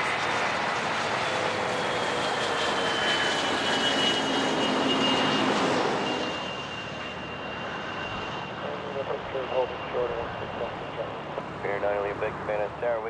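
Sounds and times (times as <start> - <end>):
plane engine passing with whine: 0.0 - 13.0.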